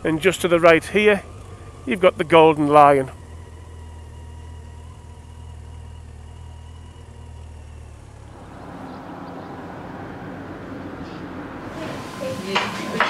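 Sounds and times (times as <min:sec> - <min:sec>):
motorcycle engine running: 0:00.0 - 0:12.2
rushing outdoor noise: 0:00.0 - 0:13.0.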